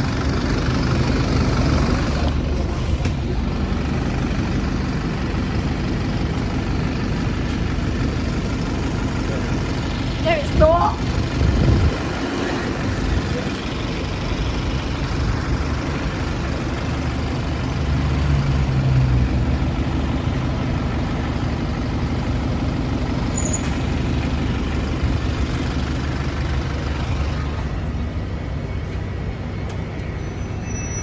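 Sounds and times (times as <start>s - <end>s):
bus engine drone: 0.0s - 31.0s
street traffic: 0.0s - 31.0s.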